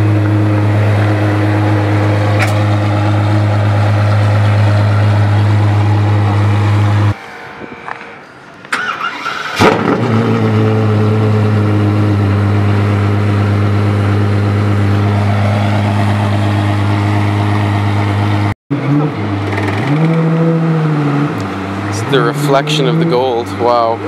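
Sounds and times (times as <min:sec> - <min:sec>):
car engine starting and idling: 0:00.0 - 0:24.0.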